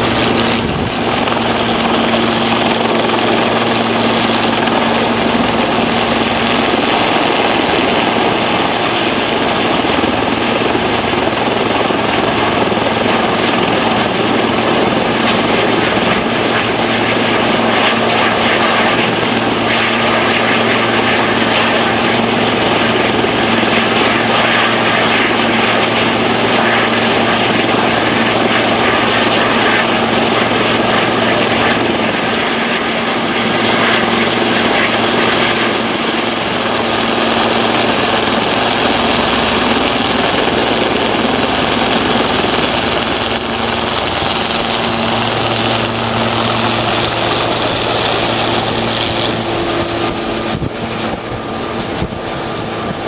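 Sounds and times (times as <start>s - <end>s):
constant low hum: 0.0s - 53.0s
helicopter rotors rushing: 0.0s - 53.0s.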